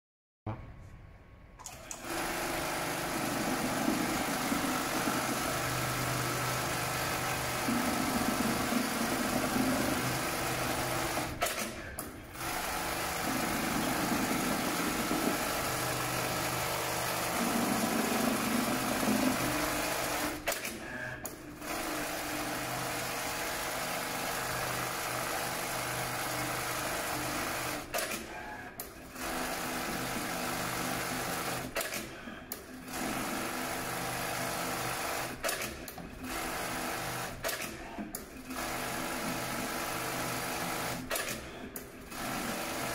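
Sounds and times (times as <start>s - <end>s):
sewing machine stitching leather: 1.6s - 42.9s.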